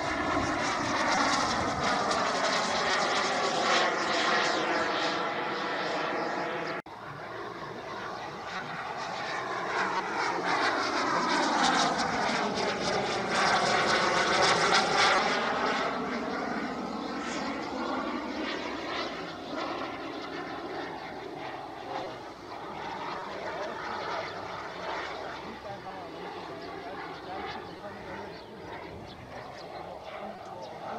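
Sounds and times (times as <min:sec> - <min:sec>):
model jet flying past: 0:00.0 - 0:30.9.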